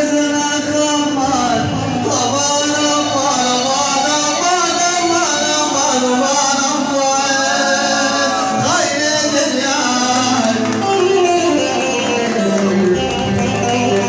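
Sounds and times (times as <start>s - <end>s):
man singing long notes: 0.0s - 14.0s
instrumental accompaniment: 0.3s - 14.0s.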